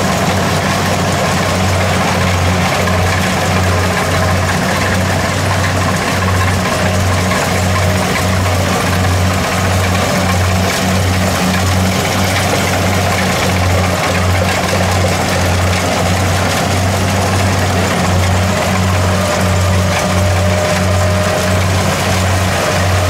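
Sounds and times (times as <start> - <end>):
combine harvester diesel engine: 0.0 - 23.0.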